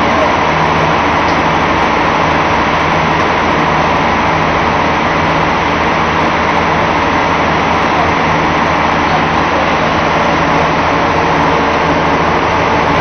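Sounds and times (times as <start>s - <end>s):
boat machinery droning: 0.0s - 13.0s.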